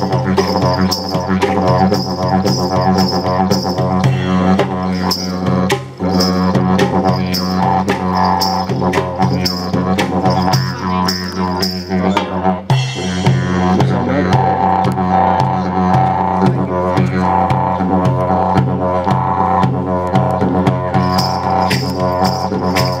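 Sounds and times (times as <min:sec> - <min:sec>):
didgeridoo drone: 0:00.0 - 0:23.0.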